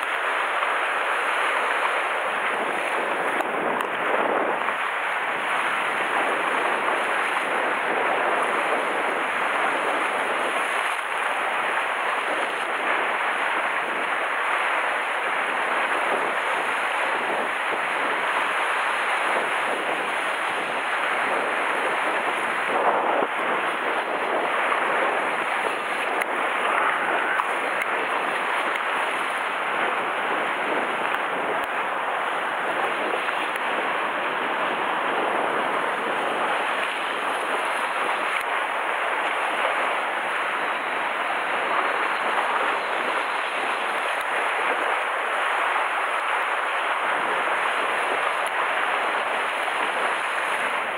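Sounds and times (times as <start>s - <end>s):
surf breaking on rocks: 0.0s - 50.9s.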